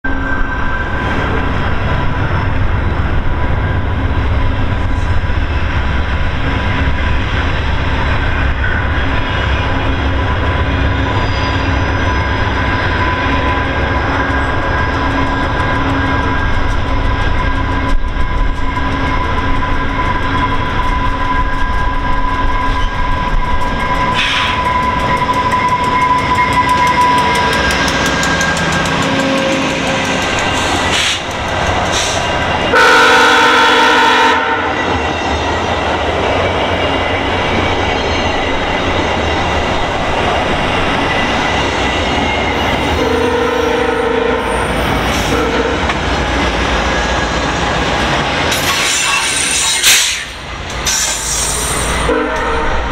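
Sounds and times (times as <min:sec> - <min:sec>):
diesel locomotive rumble: 0:00.0 - 0:52.9
train coaches rolling: 0:00.0 - 0:52.9.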